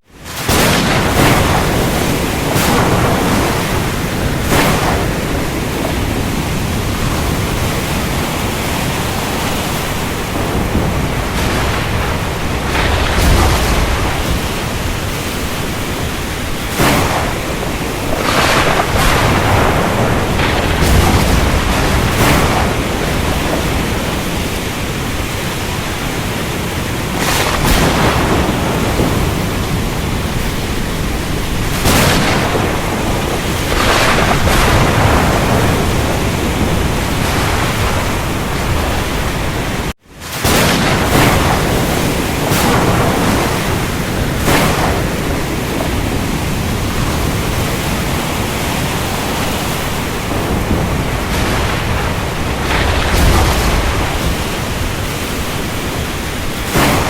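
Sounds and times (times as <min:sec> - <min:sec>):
steady rain: 0:00.0 - 0:57.0
surf: 0:00.0 - 0:57.0
thunder: 0:00.2 - 0:57.0.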